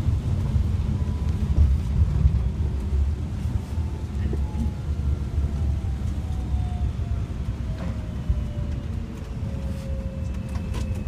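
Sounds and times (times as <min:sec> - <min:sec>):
low rumble of engine and road: 0:00.0 - 0:11.0.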